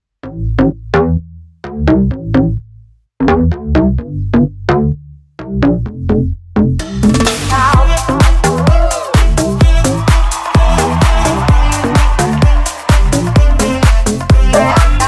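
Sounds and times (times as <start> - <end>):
bass line: 0.0 - 15.0
plucked synthesizer notes: 0.0 - 15.0.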